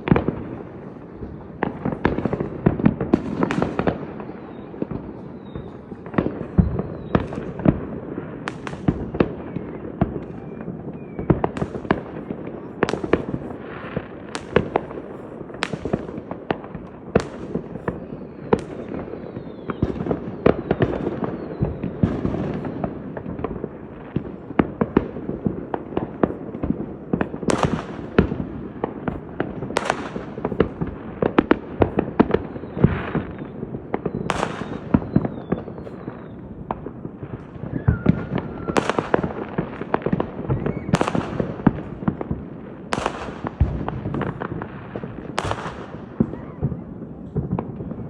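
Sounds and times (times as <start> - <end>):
fireworks bangs and crackles: 0.0 - 48.0
loud firework booms: 0.0 - 48.0.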